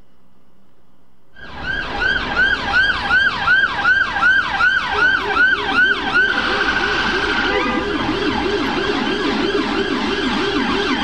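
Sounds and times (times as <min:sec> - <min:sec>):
low howler siren tone: 0:01.4 - 0:11.0
police siren wailing: 0:01.4 - 0:11.0.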